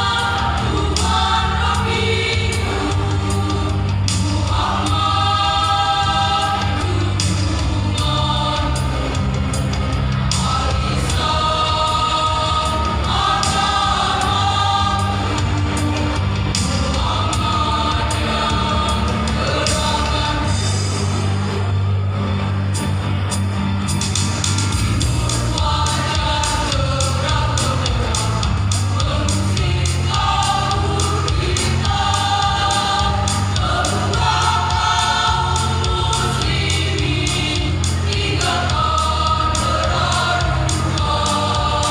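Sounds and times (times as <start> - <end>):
choir singing held chords: 0.0 - 21.9, 24.4 - 41.9
low accompaniment: 0.0 - 41.9.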